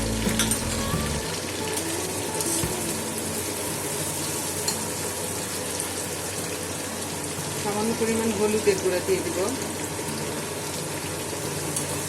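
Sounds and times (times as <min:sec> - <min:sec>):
prawns and onion sizzling in oil: 0:00.0 - 0:12.0.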